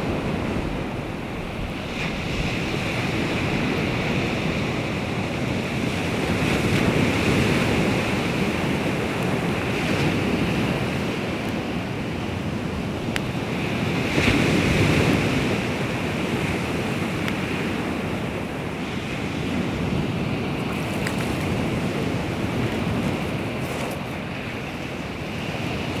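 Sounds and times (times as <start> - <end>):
waves washing onto shore: 0.0 - 26.0
wind on microphone: 0.0 - 26.0.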